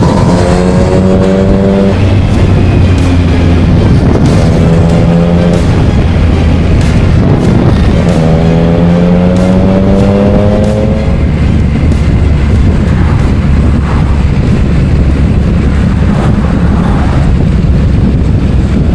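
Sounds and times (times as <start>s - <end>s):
rising tone: 0.0s - 17.8s
motorcycle engine rumble: 0.0s - 18.9s.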